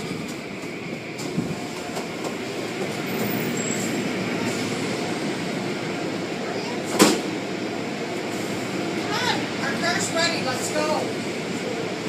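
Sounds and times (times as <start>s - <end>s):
car wash machinery running: 0.0s - 12.0s.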